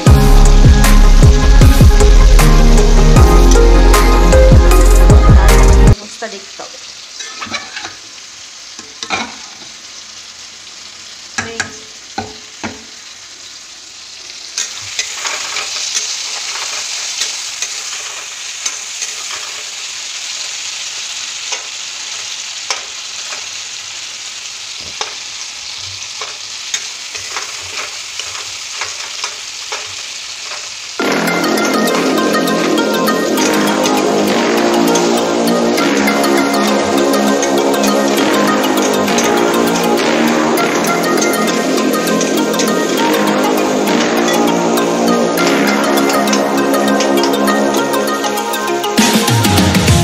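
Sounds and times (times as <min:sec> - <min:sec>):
tomatoes frying in hot oil: 0:00.0 - 0:02.3, 0:05.9 - 0:48.9.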